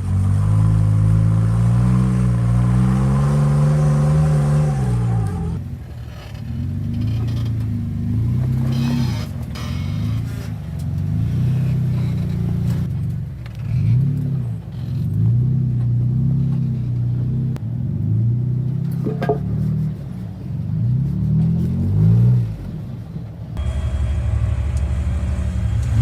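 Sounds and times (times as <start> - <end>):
simulated truck engine revving: 0.0 - 26.0.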